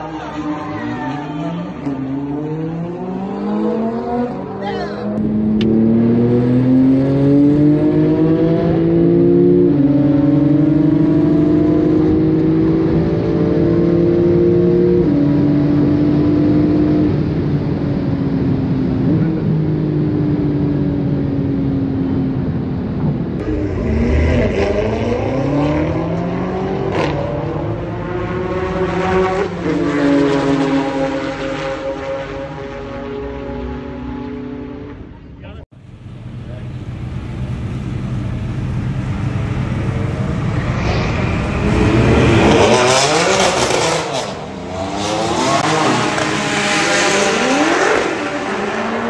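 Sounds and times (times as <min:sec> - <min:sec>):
car engine revving: 0:01.3 - 0:17.8, 0:23.4 - 0:35.2, 0:35.8 - 0:49.0.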